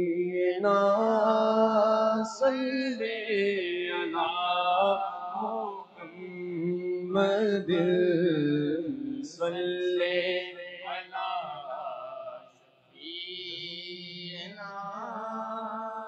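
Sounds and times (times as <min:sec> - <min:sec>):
men singing in chorus: 0:00.0 - 0:16.0.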